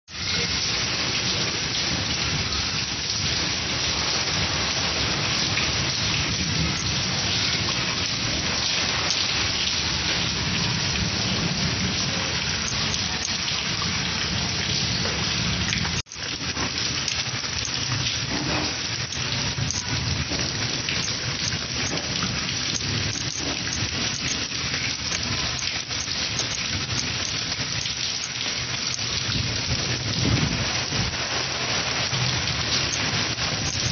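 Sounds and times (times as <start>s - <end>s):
heavy rain on concrete: 0.1s - 33.9s.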